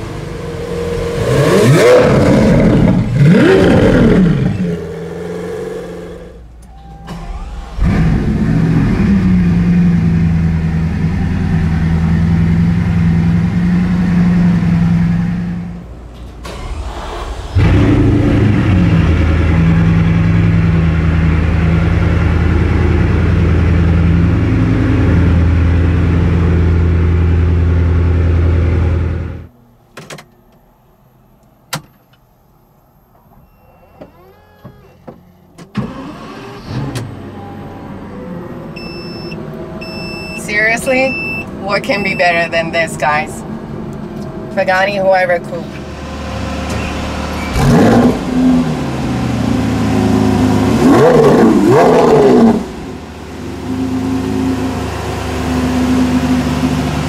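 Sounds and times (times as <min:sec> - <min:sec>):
car engine revving: 0:00.0 - 0:29.6, 0:35.8 - 0:57.0
car engine starting and idling: 0:00.0 - 0:57.0.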